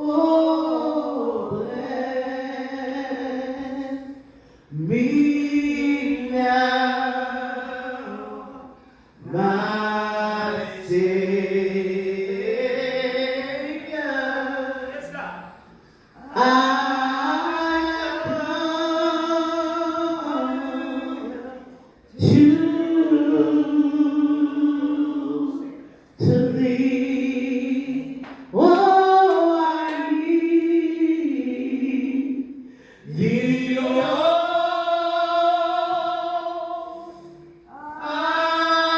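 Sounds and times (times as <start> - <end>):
congregation singing slow song: 0.0 - 38.9.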